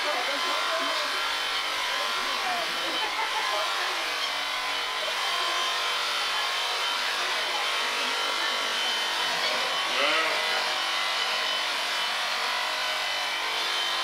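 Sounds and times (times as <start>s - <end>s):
cutter rasping through wool: 0.0s - 14.0s
electric shears buzzing: 0.0s - 14.0s.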